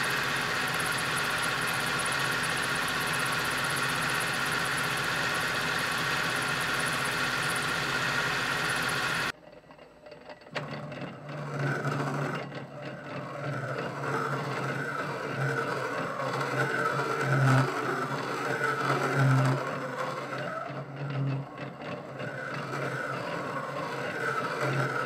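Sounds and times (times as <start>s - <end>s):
metal lathe cutting: 0.0s - 9.3s, 10.5s - 25.0s
high whine from cutting tool: 0.0s - 9.4s, 10.6s - 25.0s.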